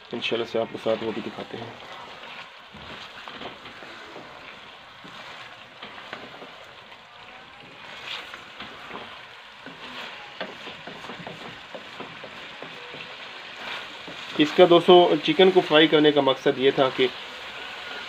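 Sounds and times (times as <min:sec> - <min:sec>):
chicken sizzling in oil: 0:00.0 - 0:18.0
wooden spatula scraping pot: 0:00.7 - 0:18.0.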